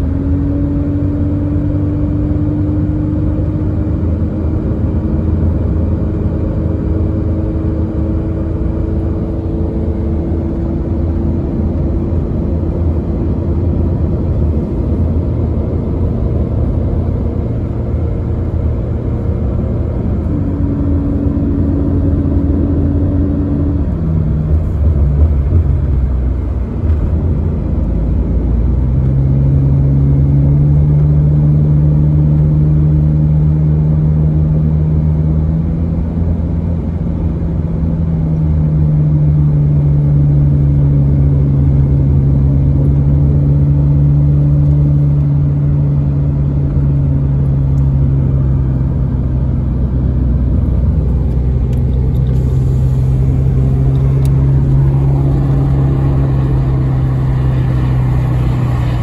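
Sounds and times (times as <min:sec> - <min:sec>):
car engine drone: 0:00.0 - 0:59.0
road noise rumble: 0:00.0 - 0:59.0.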